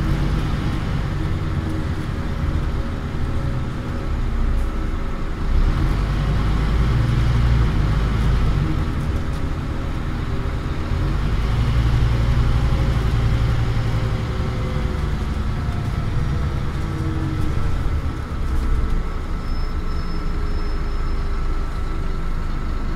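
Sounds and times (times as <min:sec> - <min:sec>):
bus diesel engine rumbling: 0:00.0 - 0:22.9.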